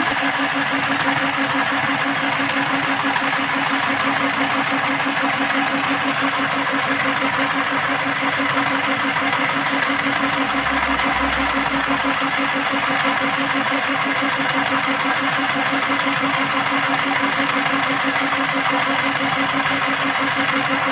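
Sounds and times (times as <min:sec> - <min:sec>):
sewing machine running: 0:00.0 - 0:20.9.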